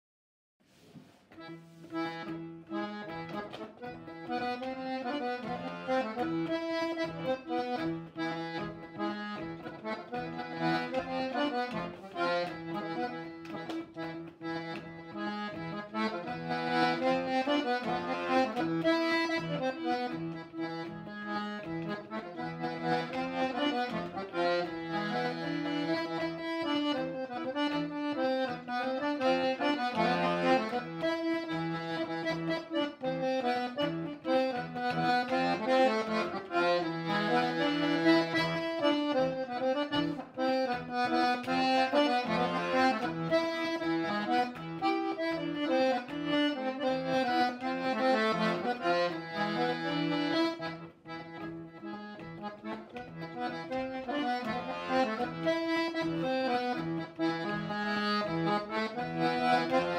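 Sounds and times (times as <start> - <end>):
button accordion dance tune: 0.7 - 59.9.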